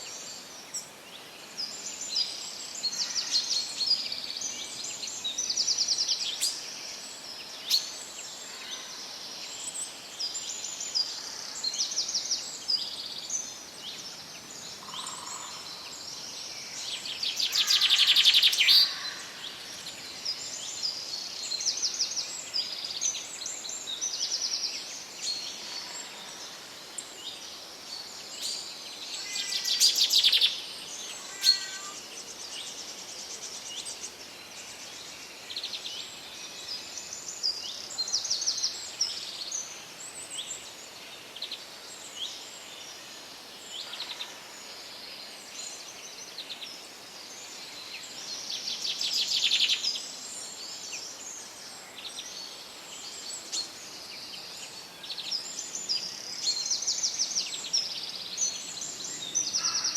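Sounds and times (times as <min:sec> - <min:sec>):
background hiss: 0:00.0 - 0:59.9
songbirds singing: 0:00.0 - 0:59.9.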